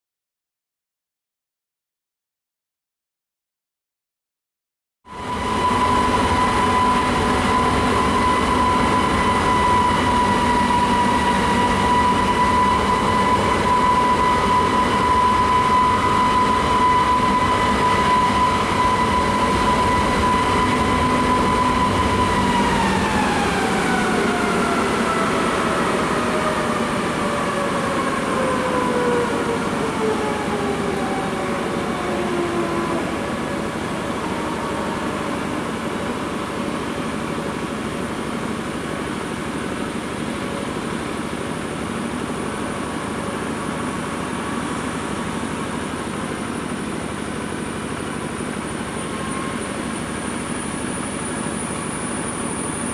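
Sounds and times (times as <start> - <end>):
jet airliner rumble and whine: 5.1 - 52.9.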